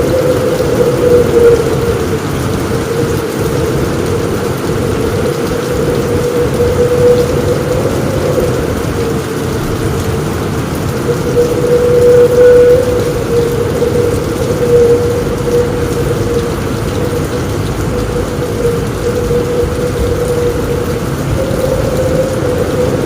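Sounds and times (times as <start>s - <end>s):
deep rumble: 0.0s - 23.0s
heavy rain on a roof: 0.0s - 23.0s.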